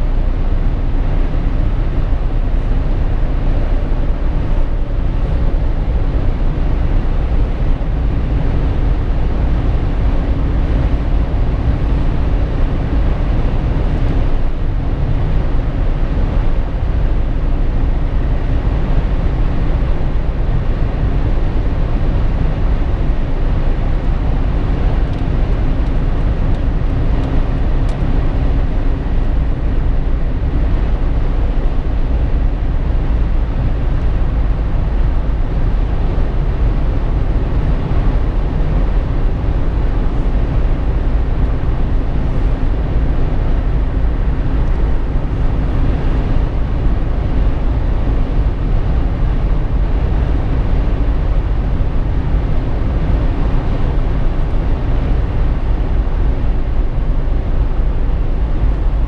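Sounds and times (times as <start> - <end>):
car interior driving rumble: 0.0 - 59.0.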